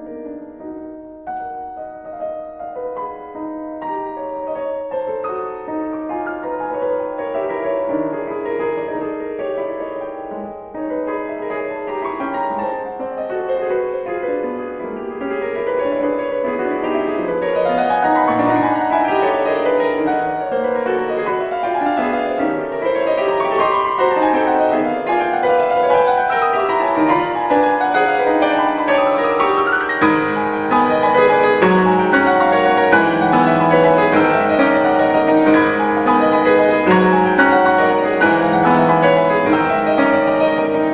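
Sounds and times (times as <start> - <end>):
classical piano music: 0.0 - 40.9.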